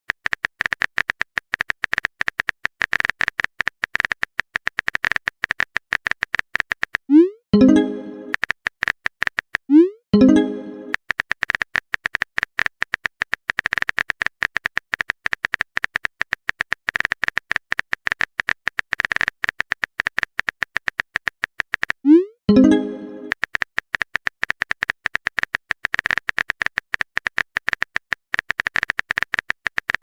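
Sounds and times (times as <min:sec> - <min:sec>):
electronic typing ticks: 0:00.1 - 0:30.0.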